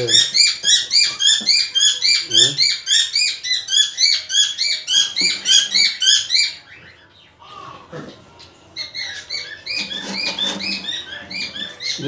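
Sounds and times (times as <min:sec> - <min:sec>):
parrot screeching: 0:00.0 - 0:06.6, 0:08.8 - 0:12.0.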